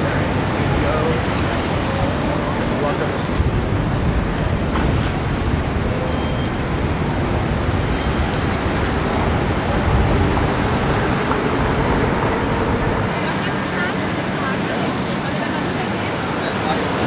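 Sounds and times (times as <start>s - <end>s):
busy street traffic rumble: 0.0s - 17.0s.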